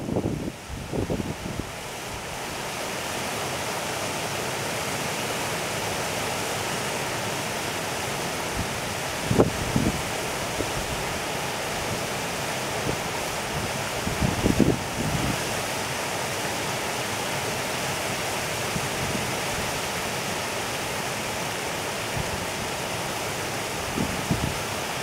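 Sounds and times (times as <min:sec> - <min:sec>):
stream rippling over pebbles: 0:00.0 - 0:25.0.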